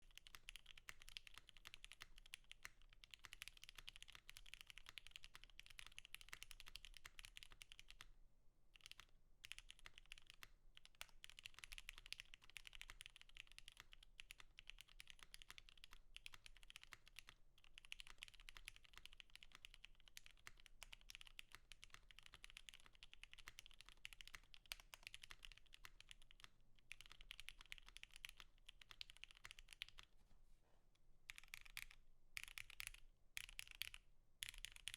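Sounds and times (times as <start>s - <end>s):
mechanical keyboard typing: 0.0s - 8.0s, 8.8s - 30.0s, 31.3s - 34.9s.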